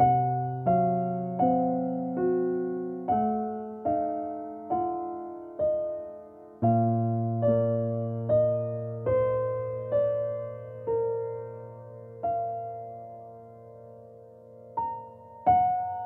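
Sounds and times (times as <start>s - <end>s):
slow soft piano music: 0.0s - 16.0s.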